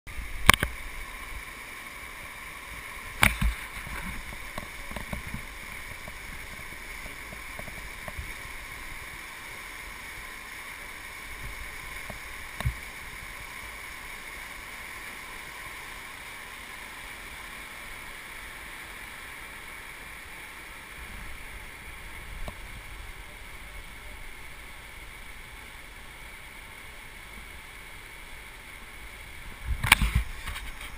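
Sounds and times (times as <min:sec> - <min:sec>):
whitewater rushing through rapid: 0:00.1 - 0:30.9.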